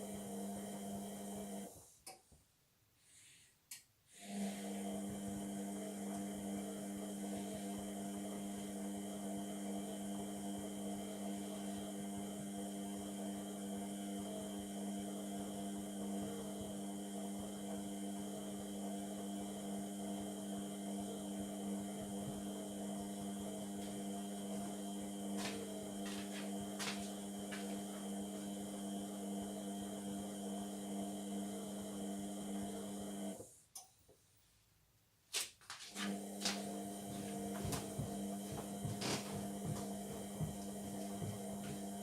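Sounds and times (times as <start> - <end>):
washing machine humming: 0.0 - 1.7, 4.2 - 33.6, 35.9 - 42.0.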